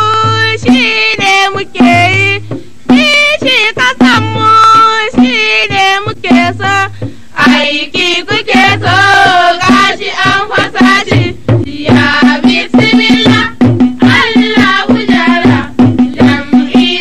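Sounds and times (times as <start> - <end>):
fast drum beat: 0.0 - 17.0.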